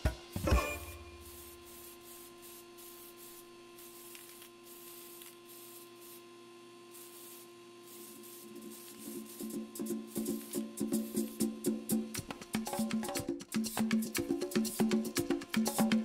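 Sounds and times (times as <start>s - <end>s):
spray paint can hissing: 1.2s - 6.2s, 6.9s - 16.0s.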